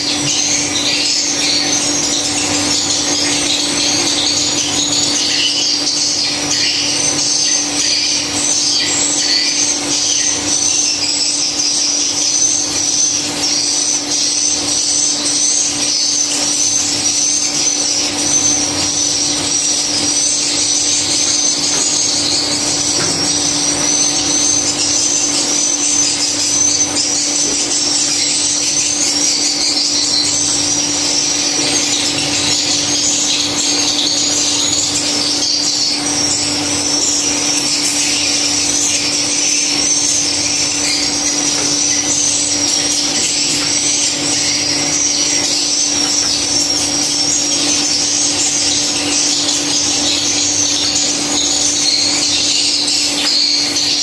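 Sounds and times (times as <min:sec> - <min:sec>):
swiftlets twittering: 0:00.0 - 0:54.0.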